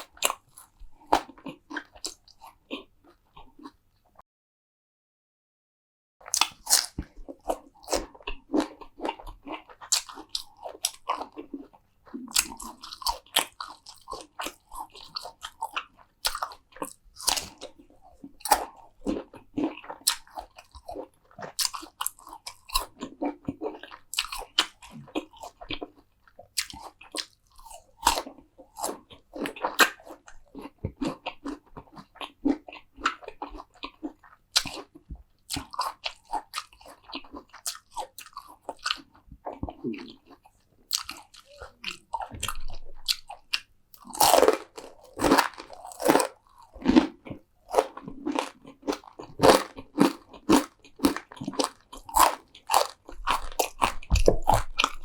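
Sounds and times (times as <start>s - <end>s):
crunchy chewing: 0.0s - 3.8s, 6.2s - 55.0s.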